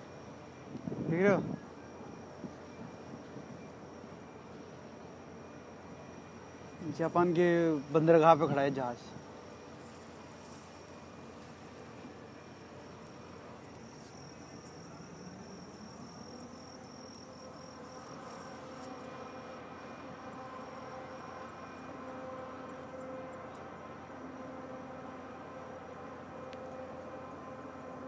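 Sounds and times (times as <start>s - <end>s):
insects chirring: 0.0s - 28.0s
faint low hum: 0.1s - 28.0s.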